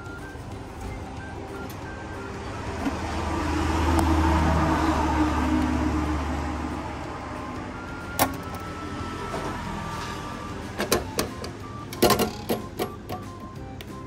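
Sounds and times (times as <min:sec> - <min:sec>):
vending machine motor hum: 0:00.0 - 0:14.0.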